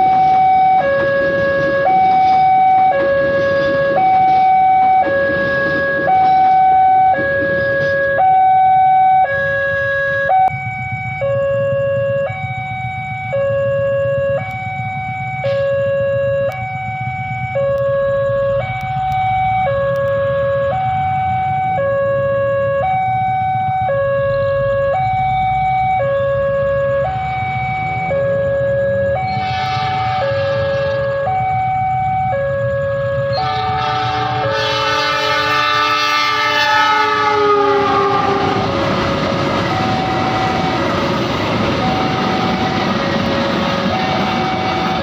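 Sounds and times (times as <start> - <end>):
two-tone level-crossing siren: 0.0 - 45.0.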